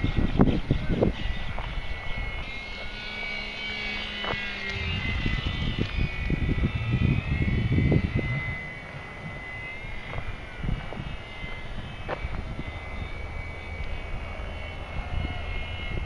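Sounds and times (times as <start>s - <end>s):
model plane motor whining: 0.0s - 16.0s
wind rumble on microphone: 0.0s - 16.0s.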